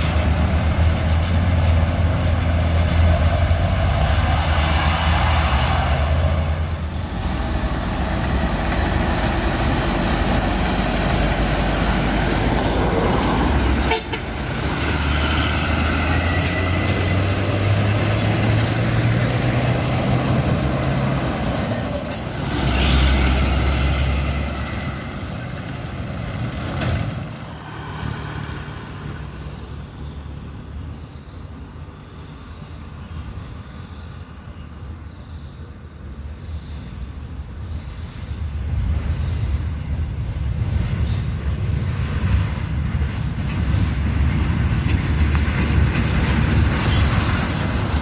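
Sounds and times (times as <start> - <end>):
diesel trucks driving: 0.0 - 35.0, 36.6 - 48.0.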